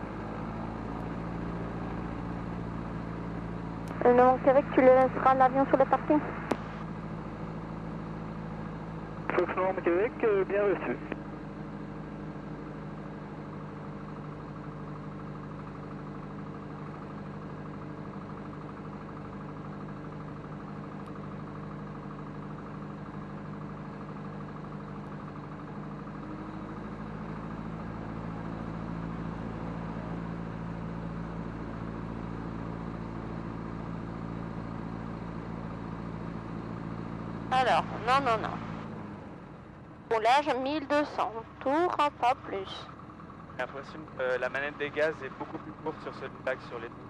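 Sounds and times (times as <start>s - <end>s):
light aircraft engine and propeller: 0.0s - 47.0s.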